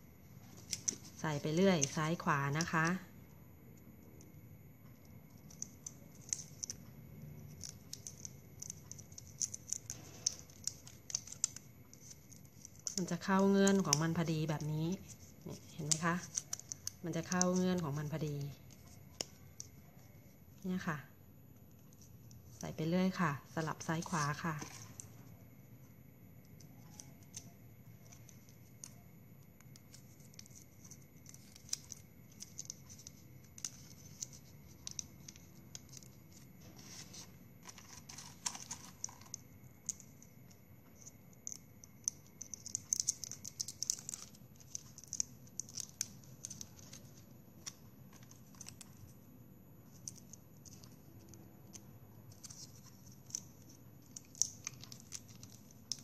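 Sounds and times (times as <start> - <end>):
plastic straws clicking and scraping: 0.5 - 3.0, 4.9 - 20.9, 21.7 - 25.2, 26.4 - 49.2, 49.9 - 56.0.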